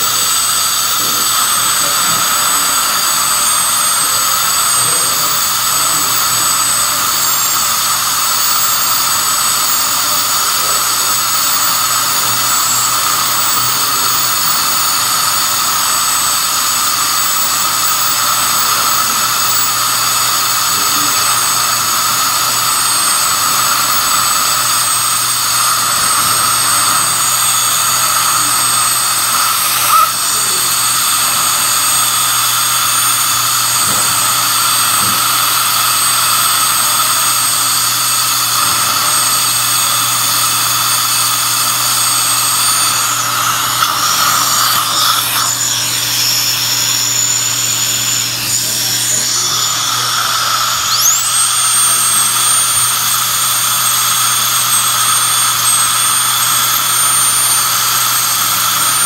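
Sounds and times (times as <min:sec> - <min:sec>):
dental drill whining: 0:00.0 - 0:59.0.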